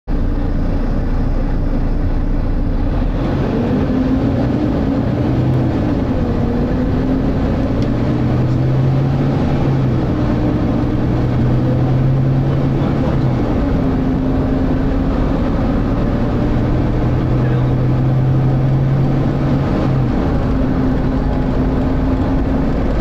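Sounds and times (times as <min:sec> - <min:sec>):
bus diesel engine rumble: 0:00.1 - 0:23.0
cooling fan drone: 0:00.1 - 0:23.0.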